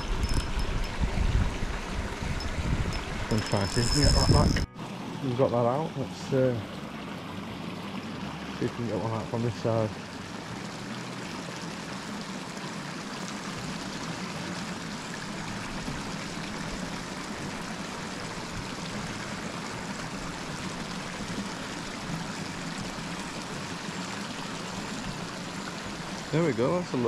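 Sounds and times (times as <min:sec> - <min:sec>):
running water: 0:00.0 - 0:27.0.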